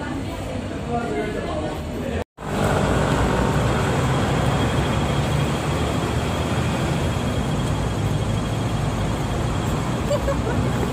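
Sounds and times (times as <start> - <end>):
traffic low rumble: 1.6 - 10.9.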